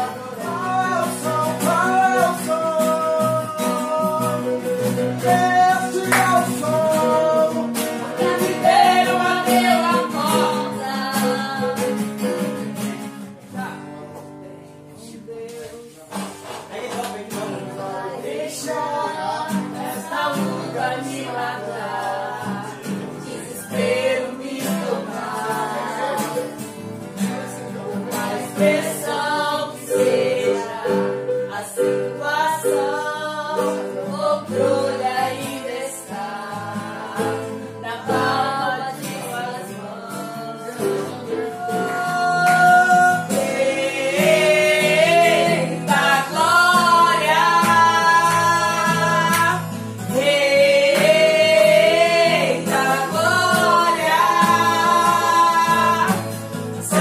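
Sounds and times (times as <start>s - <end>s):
woman singing with group: 0.0s - 12.6s, 17.3s - 57.0s
acoustic guitar: 0.0s - 57.0s.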